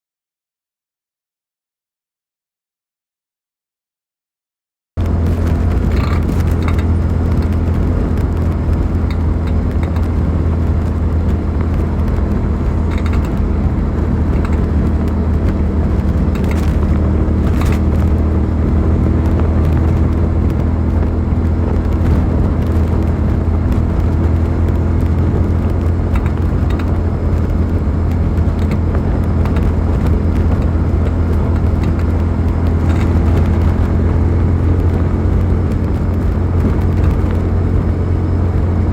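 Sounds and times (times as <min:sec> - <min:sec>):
motorcycle engine running: 0:05.0 - 0:38.9.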